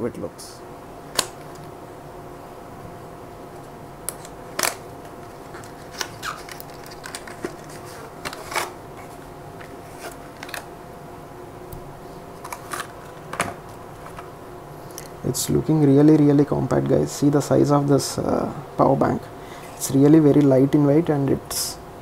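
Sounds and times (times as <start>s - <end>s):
steady fan hum: 0.0s - 22.0s.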